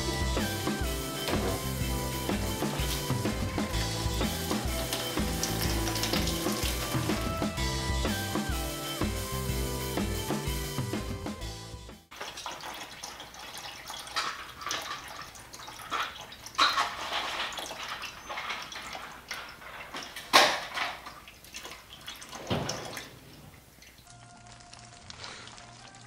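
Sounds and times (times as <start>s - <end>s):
liquid splashing and dripping: 0.4s - 7.6s, 12.1s - 26.0s.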